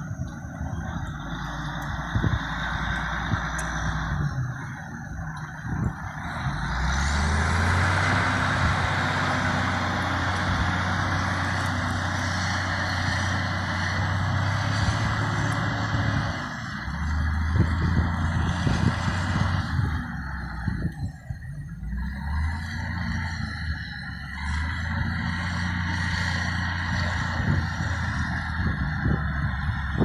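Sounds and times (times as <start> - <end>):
wheel loader diesel engine revving: 0.0 - 30.0.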